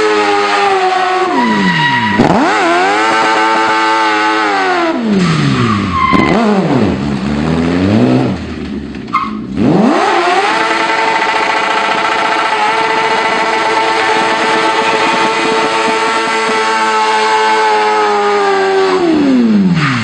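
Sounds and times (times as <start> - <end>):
car engine revving hard: 0.0 - 8.6, 9.4 - 20.0.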